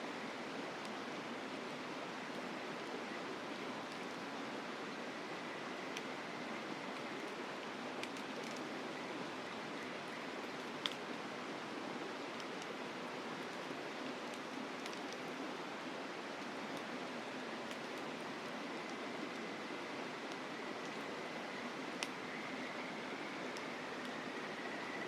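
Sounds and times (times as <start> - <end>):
river flowing: 0.0 - 25.0.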